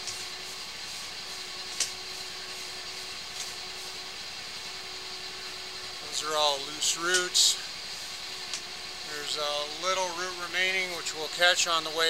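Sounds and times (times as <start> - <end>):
faint constant tone: 0.0 - 12.0
machine hum and hiss: 0.0 - 12.0.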